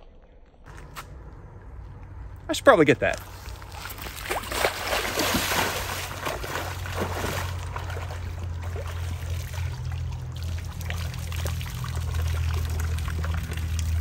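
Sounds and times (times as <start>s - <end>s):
low hum: 0.0s - 14.0s
creek water trickling: 2.0s - 14.0s.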